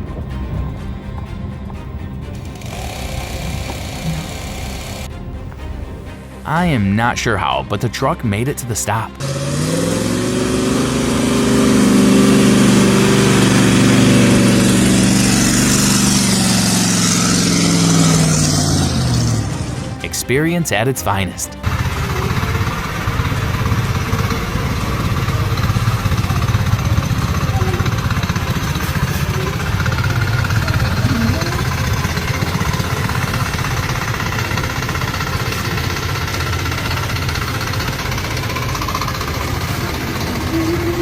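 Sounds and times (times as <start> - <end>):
diesel truck engine rumbling: 0.0 - 41.0.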